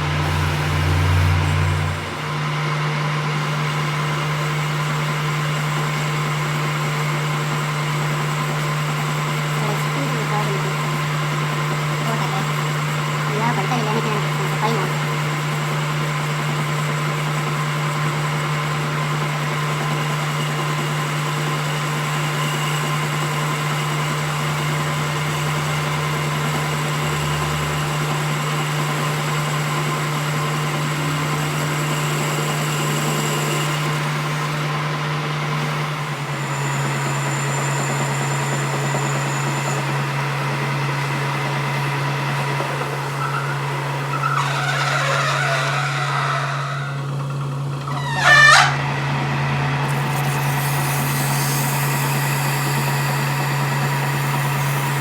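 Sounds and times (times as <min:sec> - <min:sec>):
workshop machine humming: 0:00.0 - 0:55.0.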